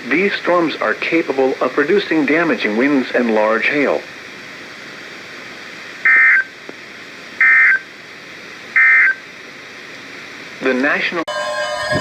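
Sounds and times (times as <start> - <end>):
faint radio hiss: 0.0 - 11.3.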